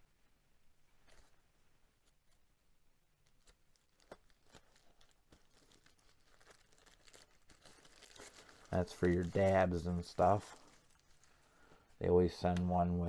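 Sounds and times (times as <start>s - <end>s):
bubble wrap crinkling: 1.0s - 12.2s.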